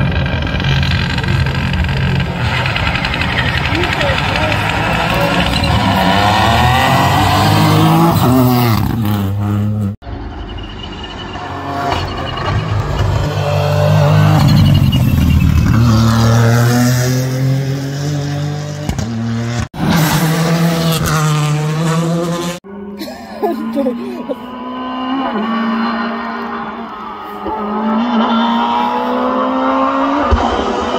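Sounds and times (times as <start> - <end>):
rally car engines accelerating: 0.0 - 30.9.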